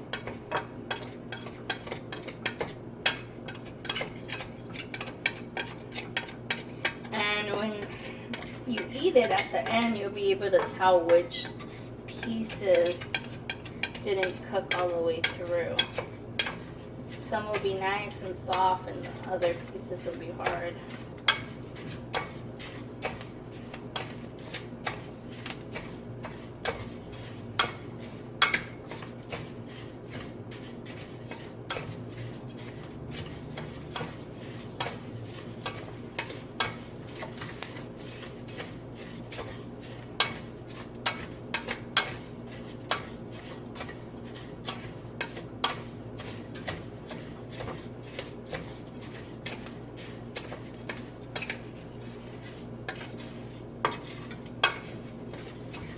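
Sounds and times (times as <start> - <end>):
rice frying in oil: 0.0 - 55.9
steady low hum: 0.0 - 55.9
spoon scraping a pan: 0.1 - 55.9.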